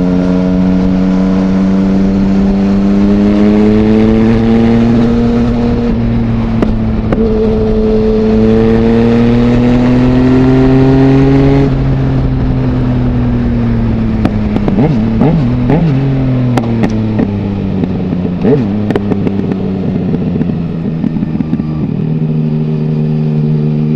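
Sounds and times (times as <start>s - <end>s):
wind noise: 0.0s - 23.9s.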